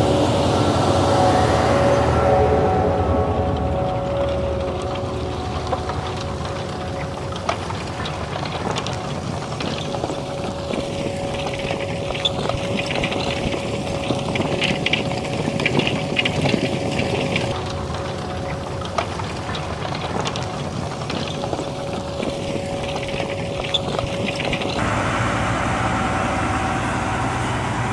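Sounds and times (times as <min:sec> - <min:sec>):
constant whine: 0:00.0 - 0:27.9
farm machinery running: 0:00.0 - 0:27.9.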